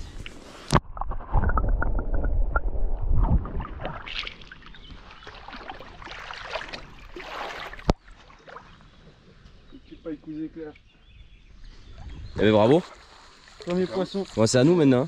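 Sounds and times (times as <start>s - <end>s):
water splashing and sloshing: 0.0s - 9.8s, 11.6s - 14.8s.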